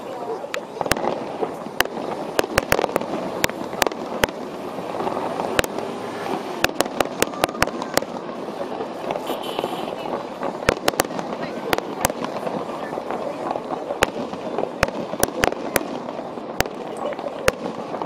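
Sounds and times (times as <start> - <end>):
steady background noise: 0.0 - 18.0
firework shells bursting: 0.8 - 18.0.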